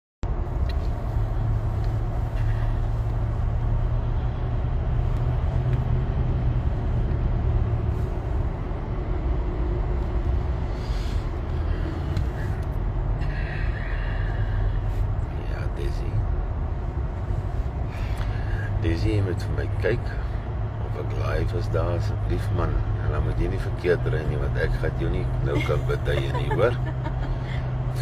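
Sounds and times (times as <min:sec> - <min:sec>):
car engine rumble inside cabin: 0:00.2 - 0:28.0.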